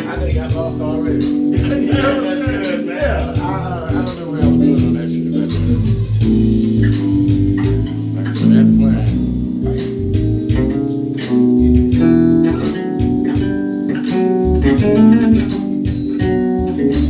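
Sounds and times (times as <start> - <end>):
electric bass guitar plucked notes: 0.0 - 17.0.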